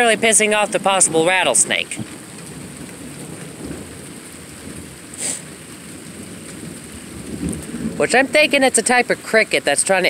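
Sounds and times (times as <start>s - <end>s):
low thunder rumble: 0.0s - 10.0s
rain falling: 0.0s - 10.0s.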